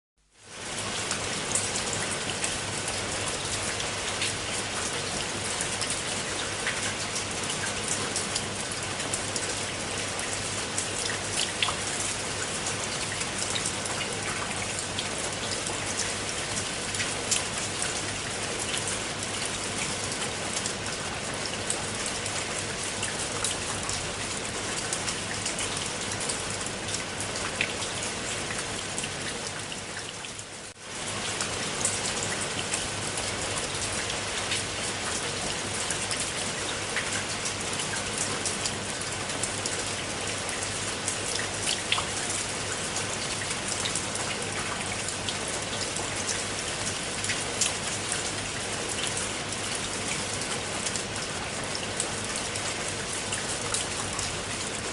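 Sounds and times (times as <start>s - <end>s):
rain falling onto water: 0.2s - 54.9s.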